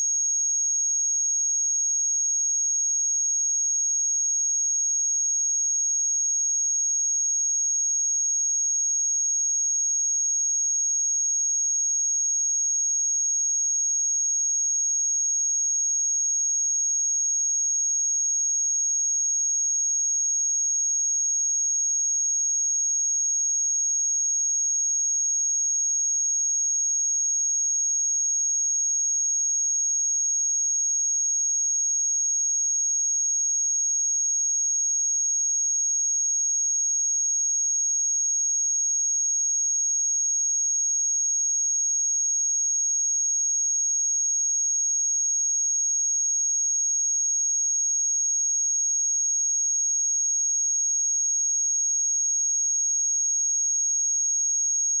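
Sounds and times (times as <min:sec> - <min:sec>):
high-pitched sine test tone: 0:00.0 - 0:55.0.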